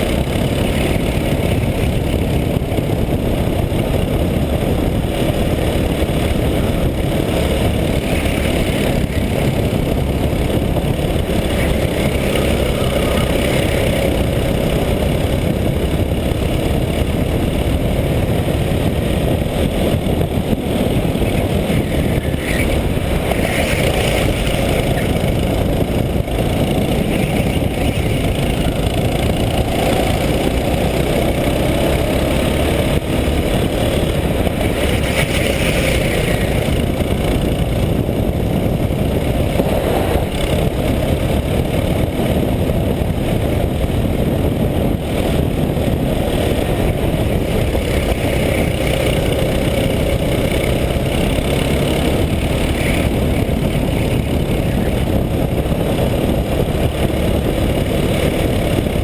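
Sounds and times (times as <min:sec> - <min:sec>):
go-kart engine racing: 0:00.0 - 0:59.0
wind and road noise: 0:00.0 - 0:59.0.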